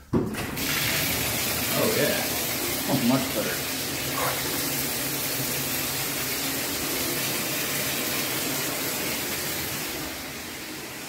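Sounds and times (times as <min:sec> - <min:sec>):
faucet running into sink: 0:00.6 - 0:11.0.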